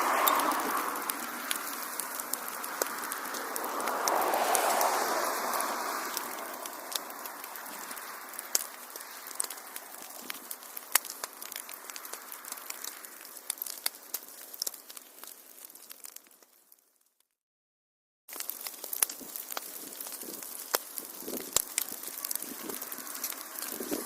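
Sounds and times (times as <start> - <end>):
fire soft hiss: 0.0 - 16.8, 18.3 - 24.0
wood fire crackling: 0.0 - 17.2, 18.3 - 24.0.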